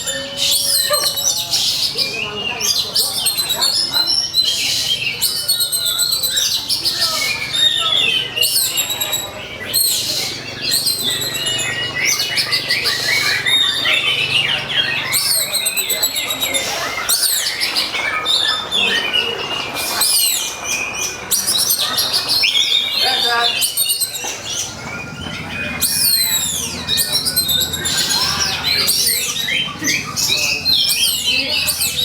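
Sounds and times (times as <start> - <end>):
magpie-robin singing: 0.0 - 32.0.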